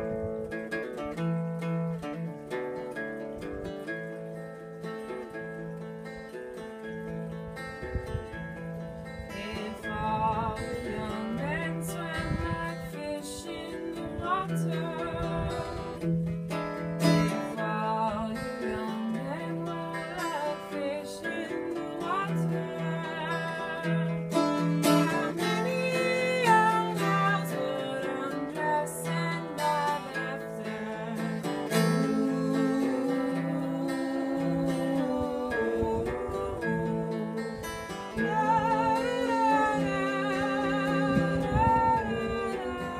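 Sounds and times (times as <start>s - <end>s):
strummed acoustic guitar: 0.0s - 42.9s.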